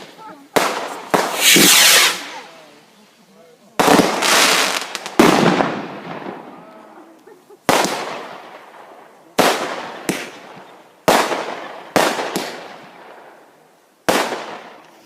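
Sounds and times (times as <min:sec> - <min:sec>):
fireworks bangs with echo: 0:00.0 - 0:02.6, 0:03.7 - 0:06.7, 0:07.6 - 0:13.4, 0:14.0 - 0:14.8.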